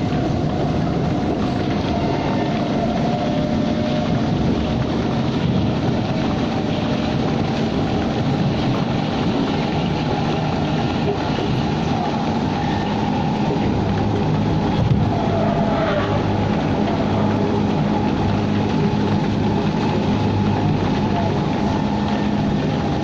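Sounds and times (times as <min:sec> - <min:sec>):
metro train running on track: 0:00.0 - 0:23.0.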